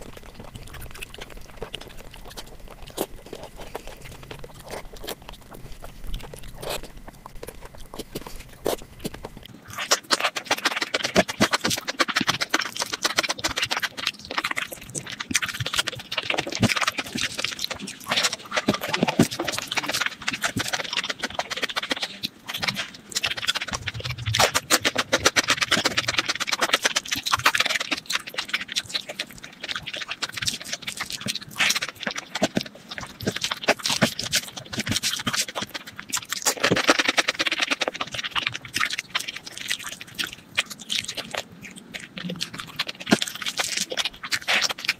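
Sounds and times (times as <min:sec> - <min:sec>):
small mouth clicks: 0:00.0 - 0:44.9
wet chewing and lip-smacking: 0:00.0 - 0:44.9.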